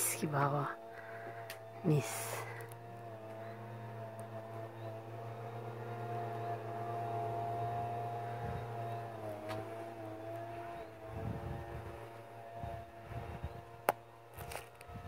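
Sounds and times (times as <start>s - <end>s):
sprayer small engine running: 0.0s - 15.0s.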